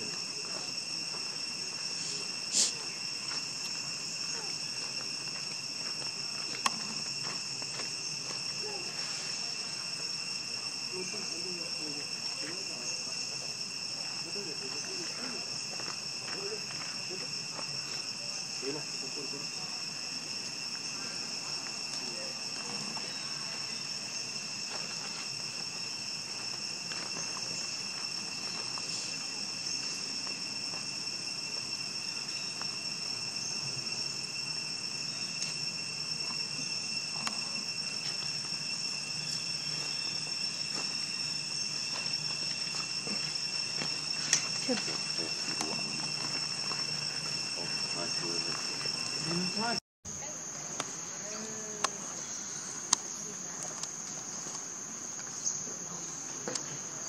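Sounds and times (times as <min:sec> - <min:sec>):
insect chirp: 0:00.0 - 0:57.0
shrill insect chorus: 0:00.0 - 0:57.0.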